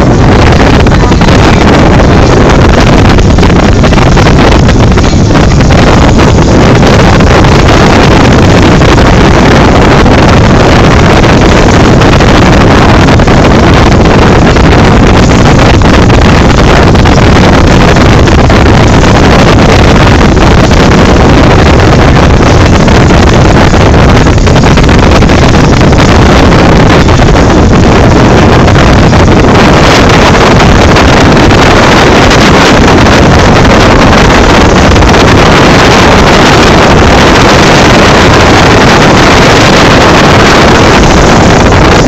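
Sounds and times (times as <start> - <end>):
motorboat engine running: 0.0 - 42.0
wind on microphone: 0.0 - 42.0.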